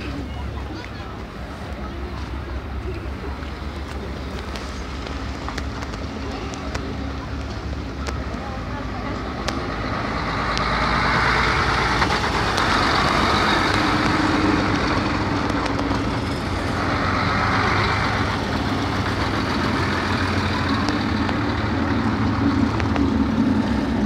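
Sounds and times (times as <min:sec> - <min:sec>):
diesel trucks driving past: 0:00.0 - 0:24.0.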